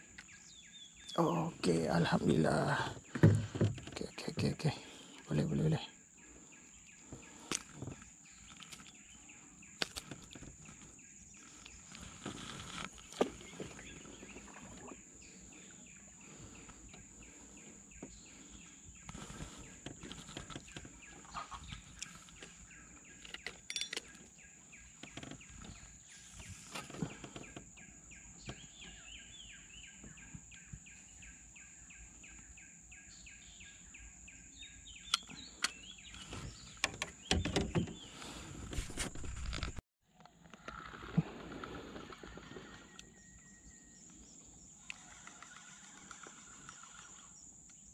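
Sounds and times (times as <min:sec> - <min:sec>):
birds chirping and calling: 0:00.0 - 0:38.7.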